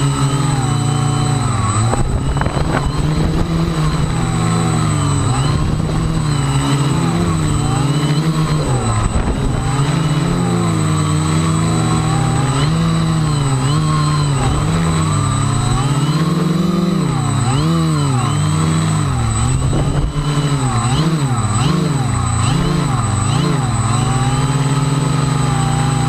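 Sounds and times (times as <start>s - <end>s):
model aircraft motors whining: 0.0s - 26.0s
steady high-pitched whine: 0.0s - 26.0s.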